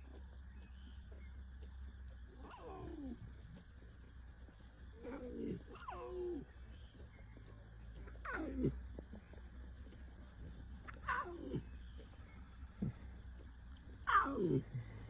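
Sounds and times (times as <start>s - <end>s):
lion cubs crying: 2.3s - 15.0s.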